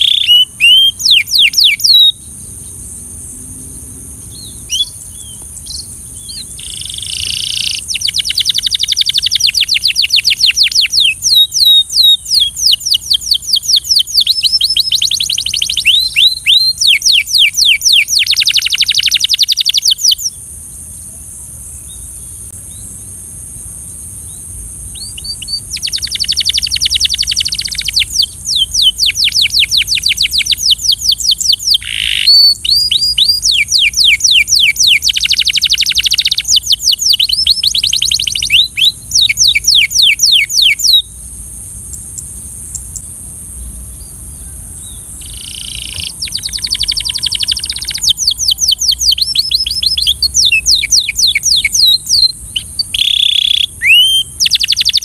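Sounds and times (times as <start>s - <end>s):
canary singing in fast trills: 0.0s - 3.1s, 4.2s - 20.4s, 24.9s - 41.1s, 44.9s - 55.0s.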